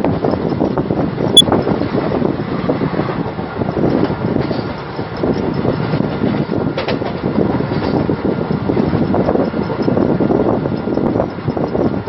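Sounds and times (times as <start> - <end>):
train wheels rumbling on rail: 0.0 - 12.0
wind buffeting microphone: 0.0 - 12.0.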